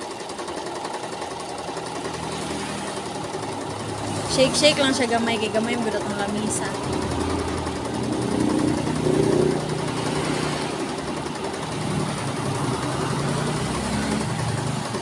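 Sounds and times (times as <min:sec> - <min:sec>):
sewing machine running: 0:00.0 - 0:15.0.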